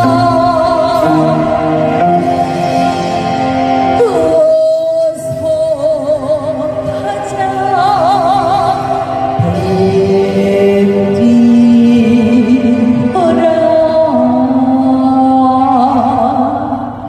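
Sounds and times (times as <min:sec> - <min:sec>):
person singing with vibrato: 0:00.0 - 0:17.0
sustained instrumental accompaniment: 0:00.0 - 0:17.0.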